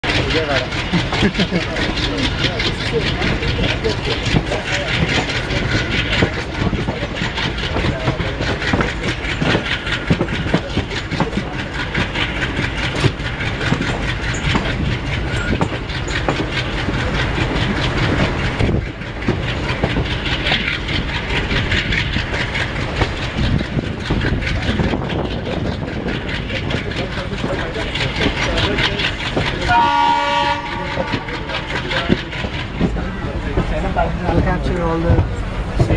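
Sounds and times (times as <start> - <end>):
train low rumble: 0.0 - 35.9
train wheels clattering over rail joints: 0.1 - 35.9.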